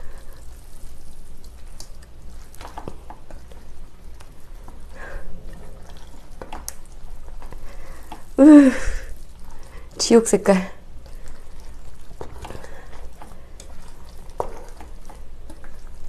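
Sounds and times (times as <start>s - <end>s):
wet squishing of noodles in sauce: 0.0s - 16.0s.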